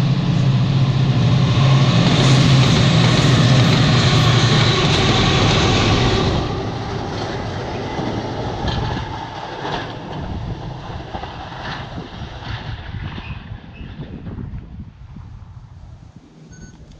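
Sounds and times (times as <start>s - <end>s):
freight train rumbling on rails: 0.0s - 16.1s.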